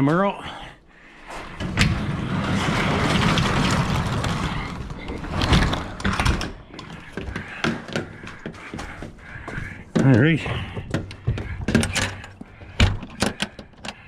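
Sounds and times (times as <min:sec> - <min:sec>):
garage door rollers rattling: 0:01.2 - 0:14.0.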